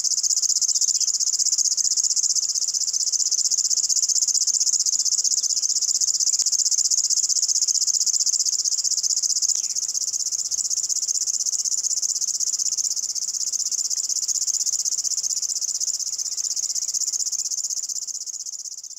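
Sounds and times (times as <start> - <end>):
bird singing dry chirring song: 0.0 - 18.9.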